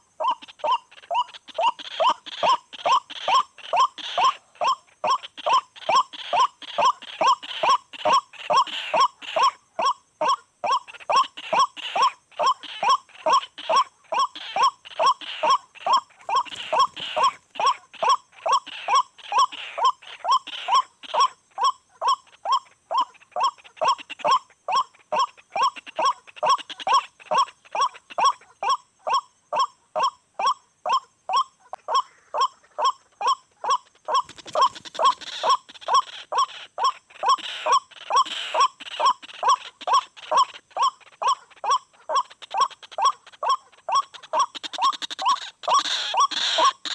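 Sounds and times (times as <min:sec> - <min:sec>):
waterhen calling: 0:00.0 - 0:46.9.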